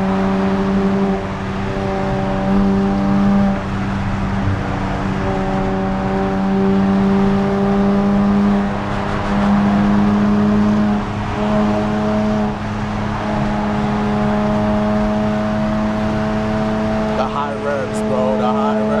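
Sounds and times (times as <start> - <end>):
car engine droning while driving: 0.0 - 19.0.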